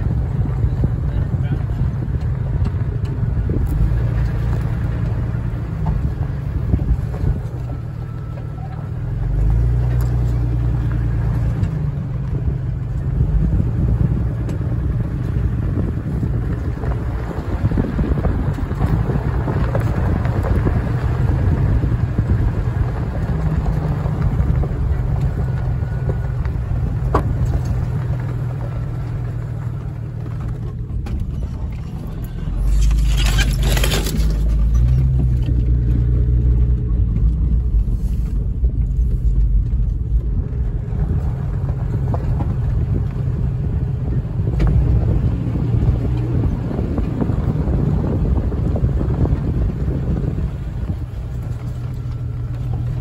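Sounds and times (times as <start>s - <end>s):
brush scraping along vehicle: 0.0s - 53.0s
vehicle engine and tyre rumble: 0.0s - 53.0s
wind noise: 0.0s - 53.0s.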